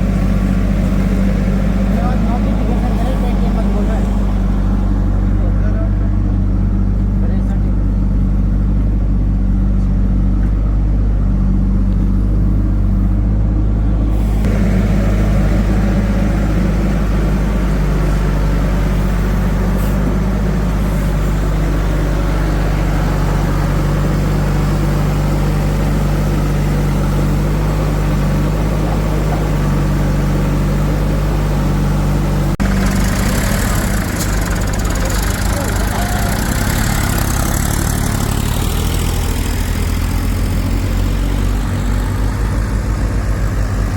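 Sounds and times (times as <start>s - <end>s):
diesel engine running: 0.0s - 43.9s
rough mechanical noise: 0.0s - 43.9s.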